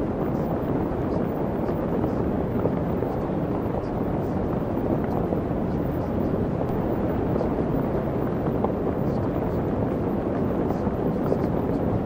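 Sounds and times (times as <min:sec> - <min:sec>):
dense rushing noise: 0:00.0 - 0:12.0.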